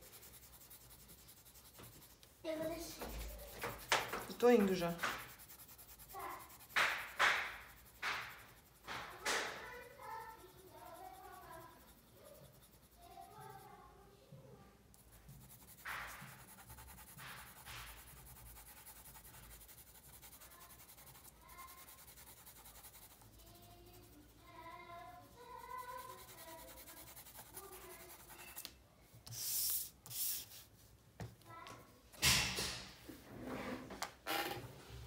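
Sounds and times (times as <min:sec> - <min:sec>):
pencil scratching on paper: 0:00.0 - 0:14.0, 0:14.9 - 0:30.7.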